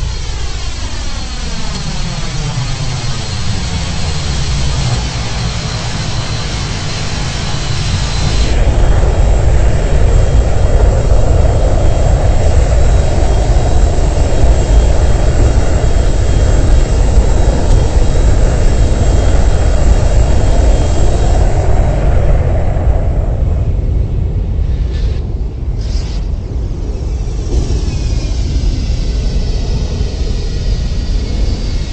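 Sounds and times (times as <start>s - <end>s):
jet engines from inside cabin: 0.0s - 31.9s.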